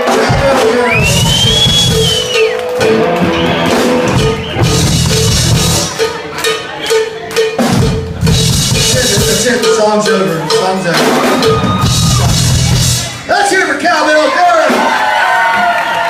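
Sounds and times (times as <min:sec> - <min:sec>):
cowbell beat: 0:00.0 - 0:13.1
rock music: 0:00.0 - 0:13.8.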